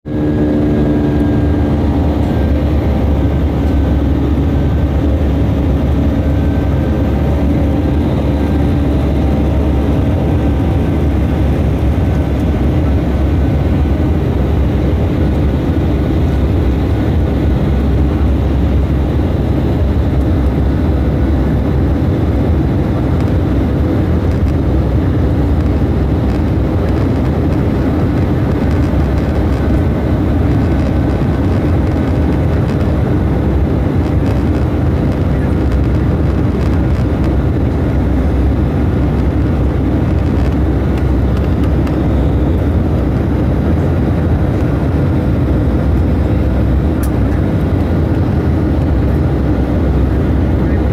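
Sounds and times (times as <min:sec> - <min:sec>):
jet engine cabin rumble: 0:00.0 - 0:50.9.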